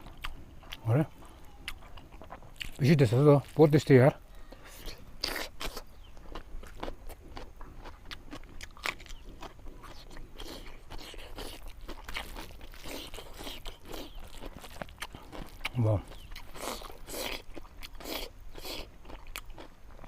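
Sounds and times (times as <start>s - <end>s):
crunches while chewing: 0.0s - 20.0s
person chewing food: 0.0s - 20.0s.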